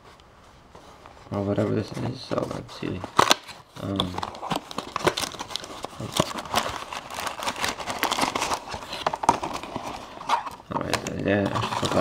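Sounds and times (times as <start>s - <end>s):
cardboard and paper rustling: 0.7s - 12.0s.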